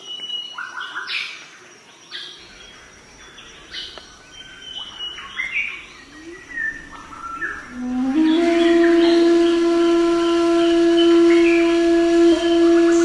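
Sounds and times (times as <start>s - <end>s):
faint background hiss: 0.0s - 13.0s
birds chirping and whistling: 2.2s - 13.0s.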